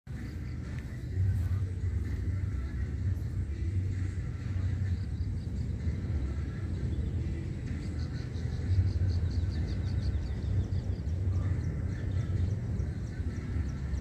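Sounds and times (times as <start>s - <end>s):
bird chirping: 0.1s - 14.0s
steady low rumble: 0.1s - 14.0s.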